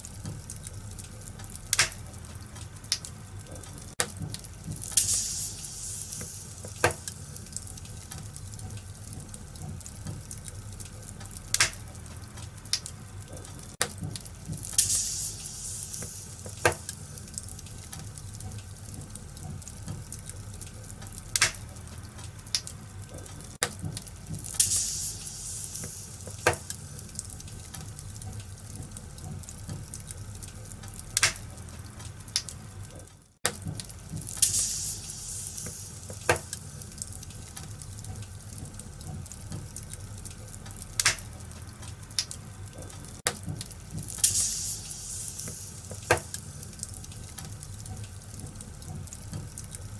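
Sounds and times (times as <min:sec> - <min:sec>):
fire pops: 0:00.0 - 0:49.9
wood fire crackling: 0:00.0 - 0:49.9.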